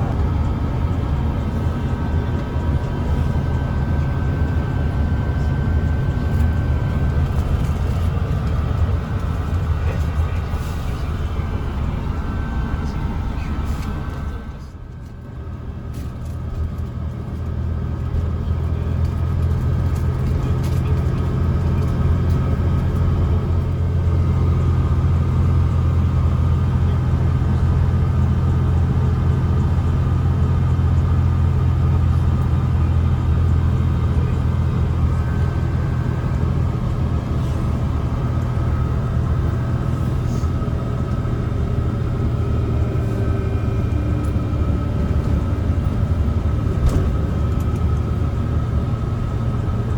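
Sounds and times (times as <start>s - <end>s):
bus diesel engine rumbling: 0.0s - 49.9s.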